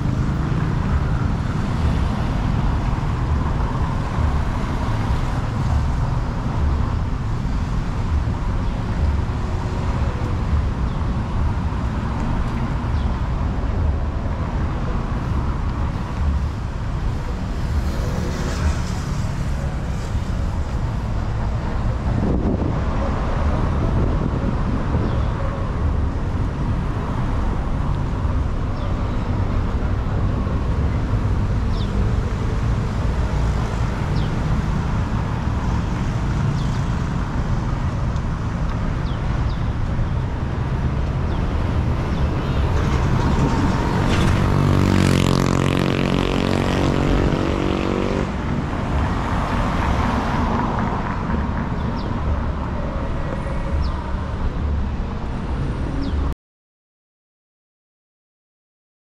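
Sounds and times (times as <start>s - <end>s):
city street traffic rumble: 0.0s - 56.4s.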